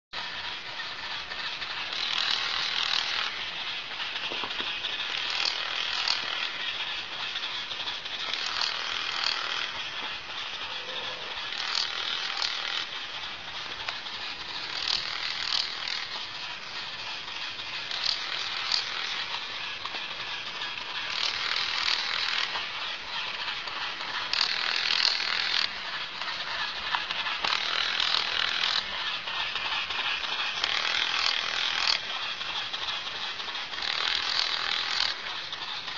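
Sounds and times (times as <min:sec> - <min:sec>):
toy motor clicking and whirring: 0:00.2 - 0:35.9.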